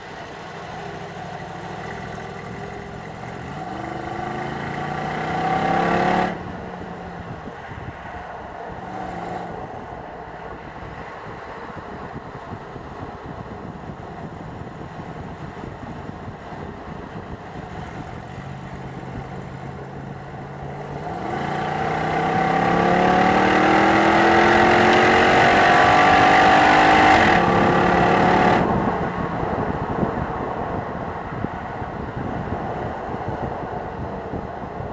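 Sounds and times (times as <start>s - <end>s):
car engine accelerating: 0.0s - 7.9s, 12.7s - 33.3s.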